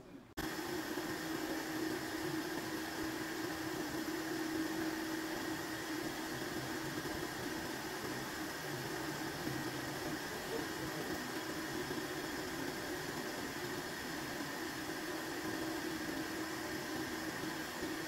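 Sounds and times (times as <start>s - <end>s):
milling machine hum and hiss: 0.4s - 18.0s.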